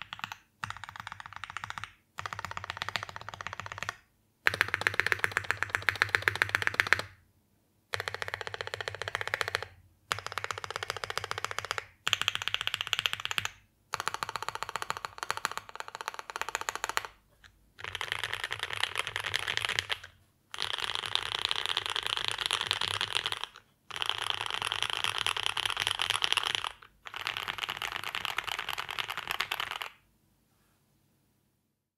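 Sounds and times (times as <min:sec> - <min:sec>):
fast mechanical keyboard typing: 0:00.0 - 0:07.1, 0:07.9 - 0:17.2, 0:17.8 - 0:30.0.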